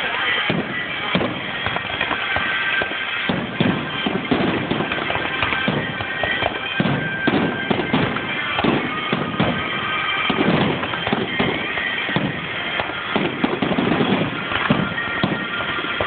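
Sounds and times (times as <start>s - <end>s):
fireworks bangs: 0.0s - 16.0s
music playing: 0.0s - 16.0s.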